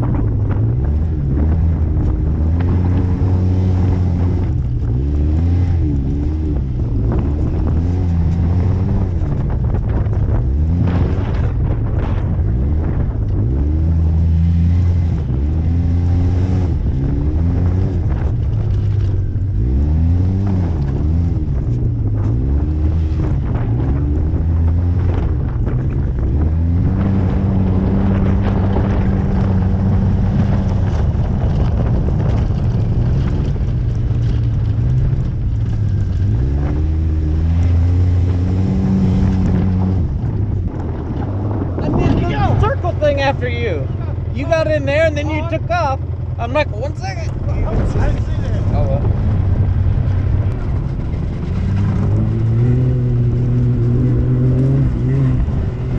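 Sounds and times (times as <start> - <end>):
engine revving: 0.0 - 55.9
wind noise on microphone: 0.0 - 55.9.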